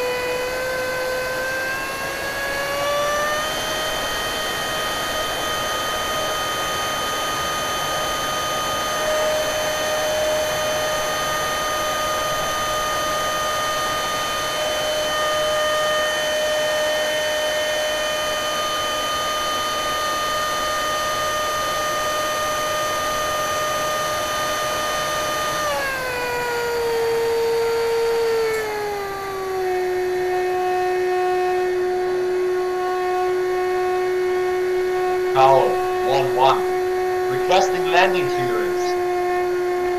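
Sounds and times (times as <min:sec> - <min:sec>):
electric ducted fan whining: 0:00.0 - 0:39.9.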